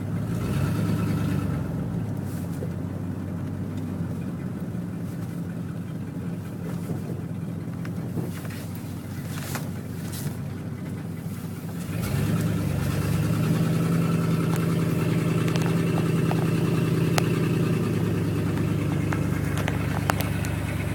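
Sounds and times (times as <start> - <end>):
car engine running: 0.0 - 20.9.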